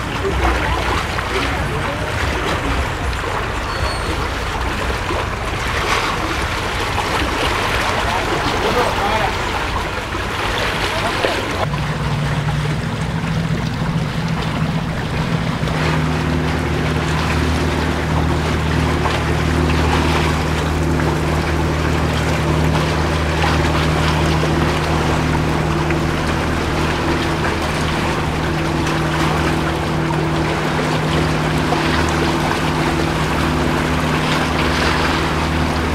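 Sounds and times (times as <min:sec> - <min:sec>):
motorboat engine drone: 0:00.0 - 0:35.9
water rushing: 0:00.0 - 0:35.9.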